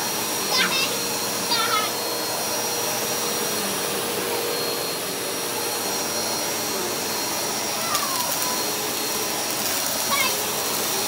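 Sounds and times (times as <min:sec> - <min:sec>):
vacuum cleaner running on carpet: 0:00.0 - 0:11.0.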